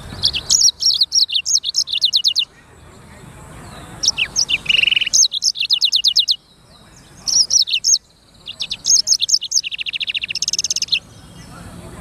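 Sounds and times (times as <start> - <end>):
songbird trilling and chirping: 0.0 - 12.0.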